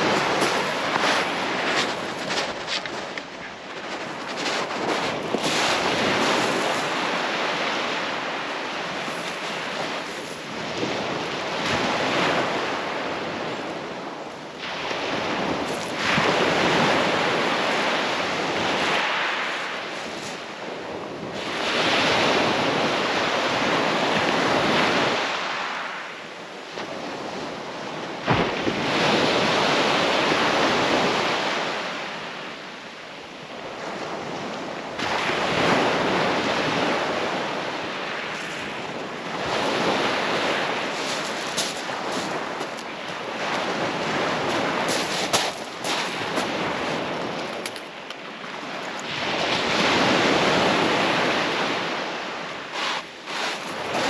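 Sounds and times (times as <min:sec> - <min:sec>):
wind on microphone: 0:00.0 - 0:25.7, 0:26.3 - 0:54.0
waves washing up shingle beach: 0:00.0 - 0:54.0.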